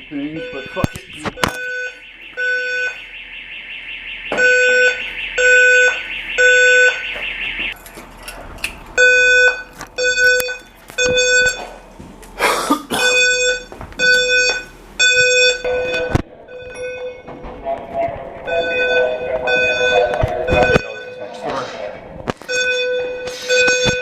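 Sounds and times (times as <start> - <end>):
fire alarm beeps: 0.0 - 7.8, 9.0 - 11.7, 13.0 - 17.5, 18.4 - 21.6, 22.4 - 24.0
high buzzing alarm: 0.0 - 7.8, 9.0 - 11.7, 12.9 - 24.0.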